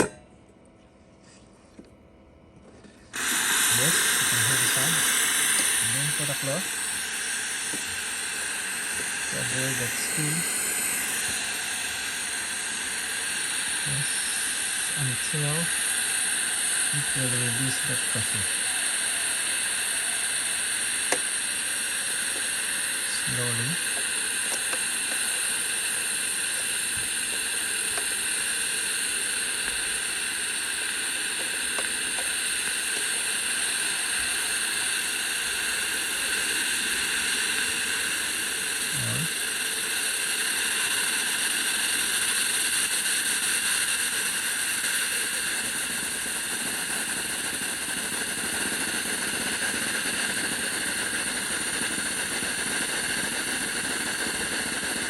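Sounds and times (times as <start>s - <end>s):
steam hissing: 3.1s - 55.0s.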